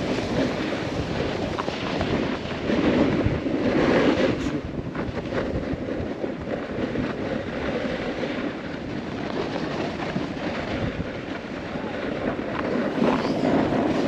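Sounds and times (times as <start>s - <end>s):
snowboard scraping over snow: 0.0s - 14.0s
wind on microphone: 0.0s - 14.0s.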